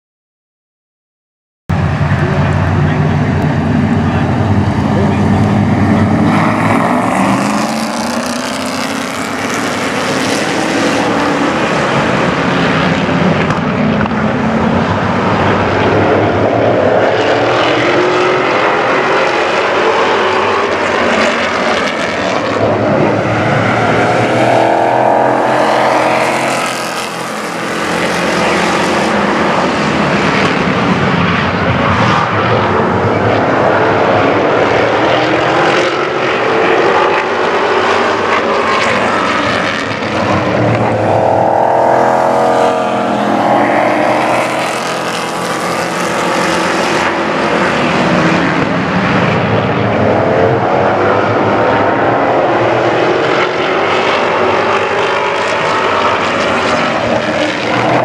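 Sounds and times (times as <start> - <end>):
race truck engines passing: 1.7 - 58.0.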